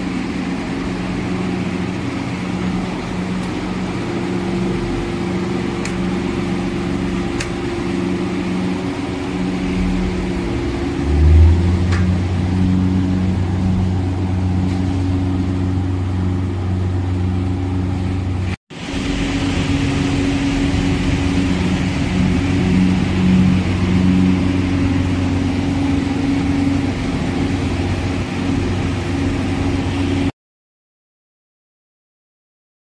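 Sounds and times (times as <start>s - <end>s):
deep drone: 0.0s - 30.3s
electric fans humming: 0.0s - 30.3s.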